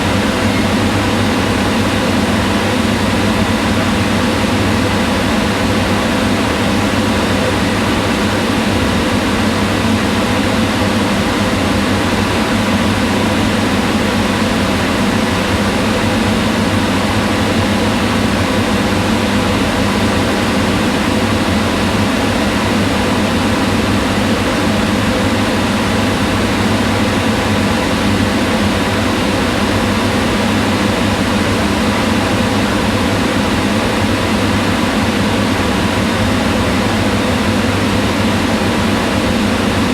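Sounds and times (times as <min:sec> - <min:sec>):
range hood fan whirring: 0:00.0 - 0:39.9.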